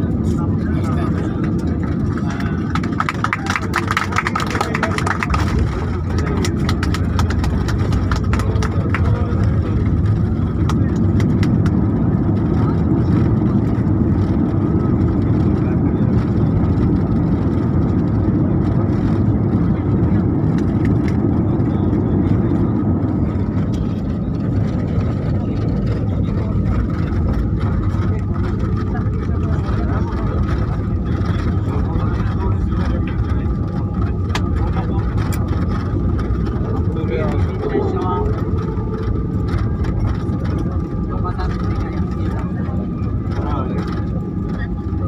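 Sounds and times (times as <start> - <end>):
engines and wheels rumbling: 0.0 - 45.0.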